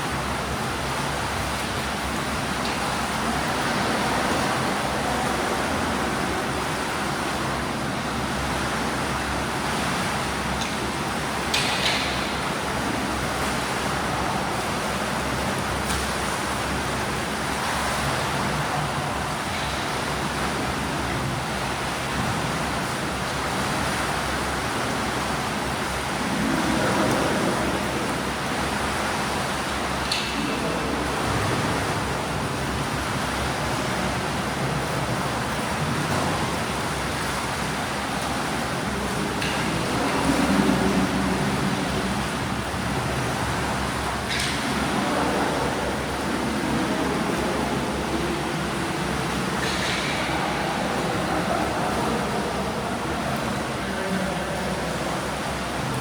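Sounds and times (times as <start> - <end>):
swimmers splashing water: 0.0 - 56.0.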